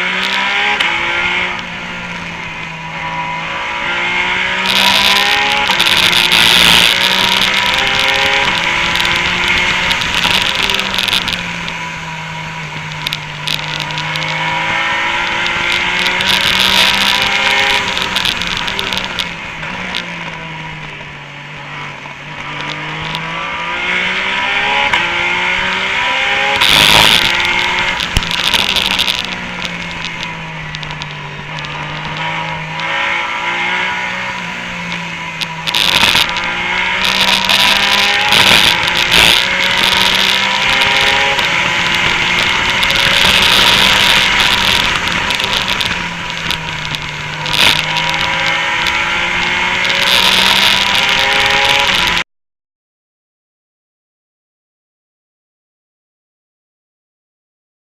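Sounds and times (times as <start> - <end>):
race car engine accelerating: 0.0 - 52.2.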